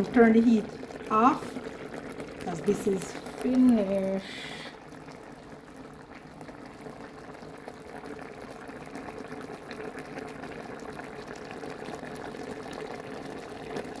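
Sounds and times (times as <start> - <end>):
broth bubbling in a pot: 0.0 - 14.0.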